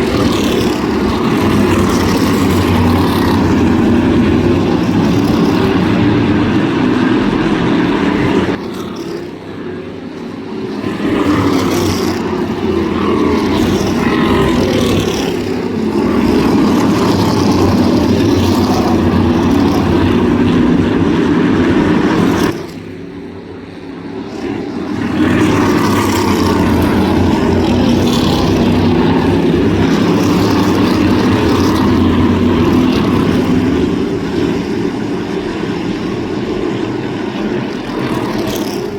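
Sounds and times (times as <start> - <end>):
race car engines droning: 0.0 - 38.9.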